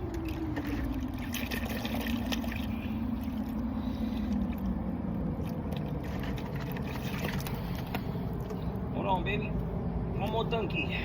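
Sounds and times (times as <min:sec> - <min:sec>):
engine droning: 0:00.0 - 0:11.0
low rumble: 0:00.0 - 0:11.0.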